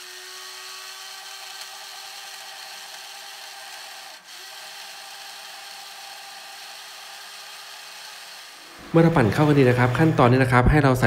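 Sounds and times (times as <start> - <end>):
blender motor running: 0.0 - 10.9.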